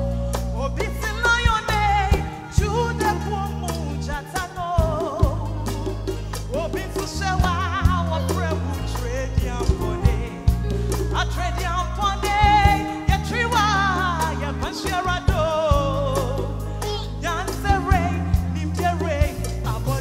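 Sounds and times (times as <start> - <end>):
bass and drums: 0.0 - 20.0
person singing gospel: 0.0 - 20.0.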